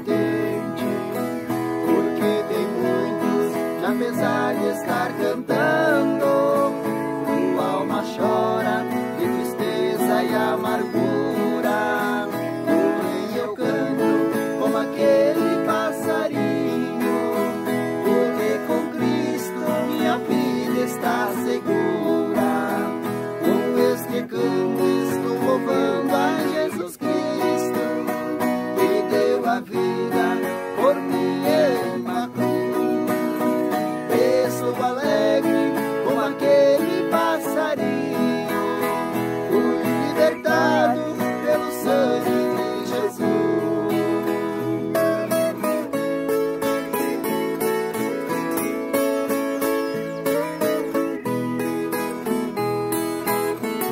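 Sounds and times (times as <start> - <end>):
two men singing a duet: 0.0 - 46.3
folk guitars plucked and strummed: 0.0 - 53.9.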